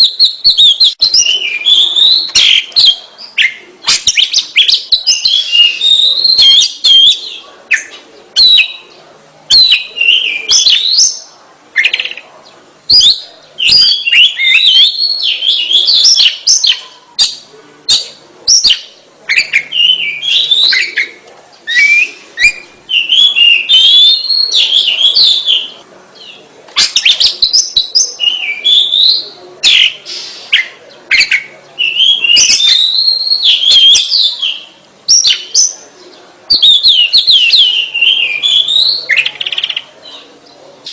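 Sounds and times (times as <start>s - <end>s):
bird singing whistled phrases: 0.0s - 8.8s, 9.5s - 11.2s, 12.9s - 25.8s, 26.8s - 35.8s, 36.5s - 39.9s.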